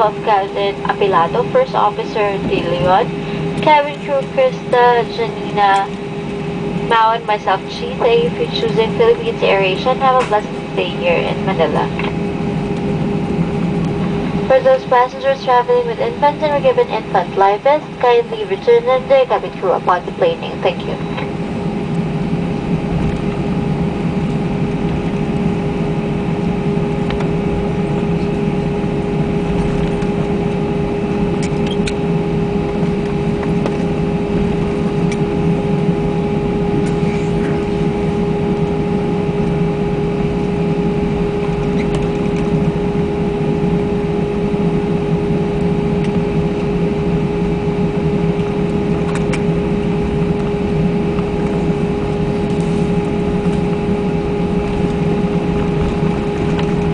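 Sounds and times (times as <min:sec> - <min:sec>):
airplane cabin engine hum: 0:00.0 - 0:56.9.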